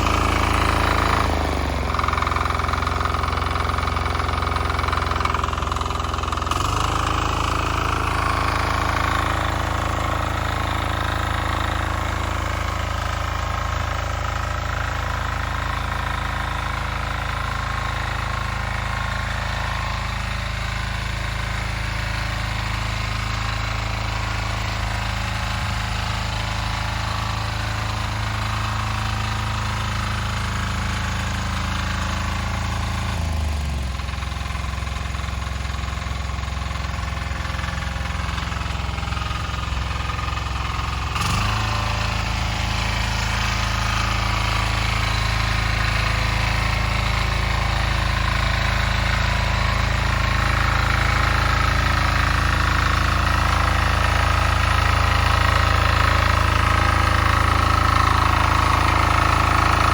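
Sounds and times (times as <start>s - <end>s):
diesel tractor engine knocking: 0.0s - 59.9s.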